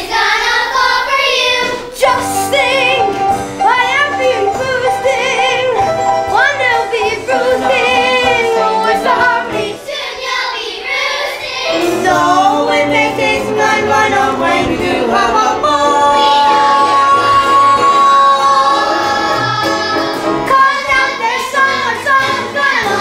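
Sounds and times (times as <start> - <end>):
children's chorus singing: 0.0 - 23.0
musical accompaniment: 0.0 - 23.0.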